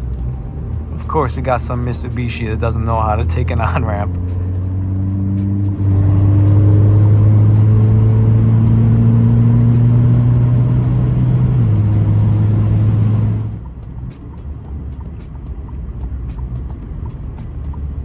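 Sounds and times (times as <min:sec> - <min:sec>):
car exhaust drone: 0:00.0 - 0:18.0.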